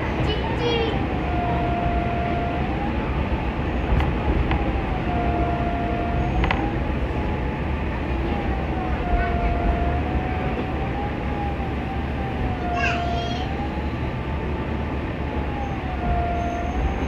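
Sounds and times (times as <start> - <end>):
train interior rumble: 0.0 - 17.0.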